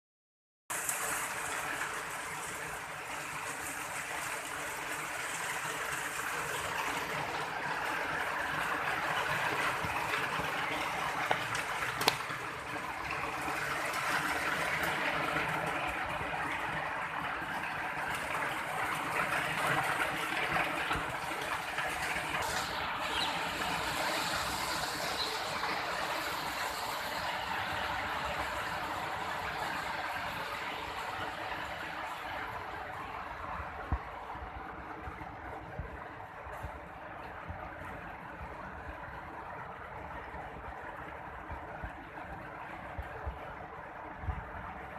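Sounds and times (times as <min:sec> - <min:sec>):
steady rain falling: 0:00.7 - 0:44.9.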